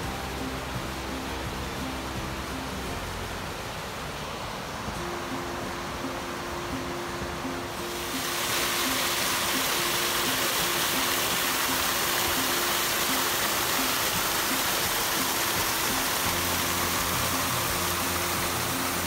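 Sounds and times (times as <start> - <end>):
water rushing down creek: 0.0 - 19.0.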